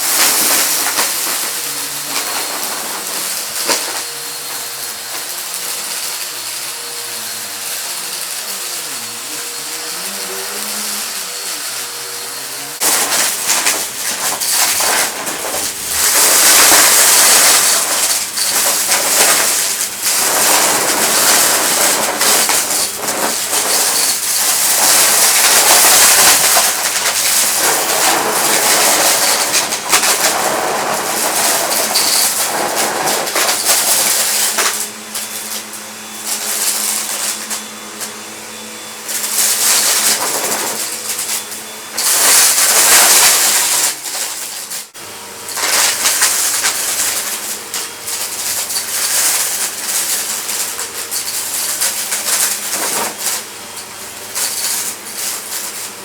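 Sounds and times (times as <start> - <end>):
debris rattling through vacuum: 0.0 - 56.0
vacuum cleaner running: 0.0 - 56.0.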